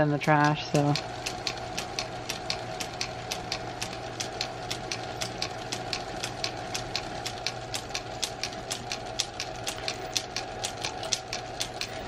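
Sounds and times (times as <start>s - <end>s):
drill ticking: 0.0s - 12.0s
lathe motor hum: 0.0s - 12.0s.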